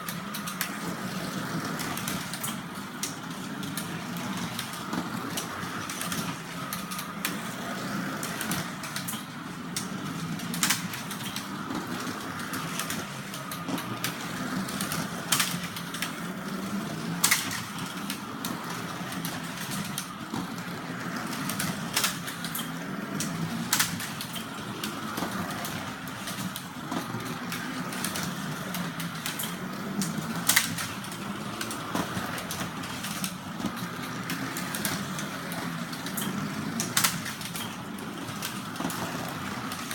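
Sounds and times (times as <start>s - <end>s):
slot car electric motors: 0.0s - 39.9s.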